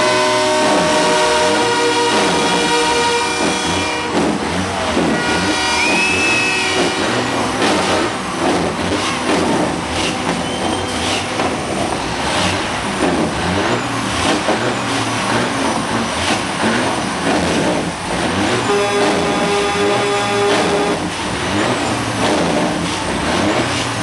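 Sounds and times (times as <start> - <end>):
diesel truck engine revving: 0.0 - 24.0
other truck diesels running: 0.0 - 24.0.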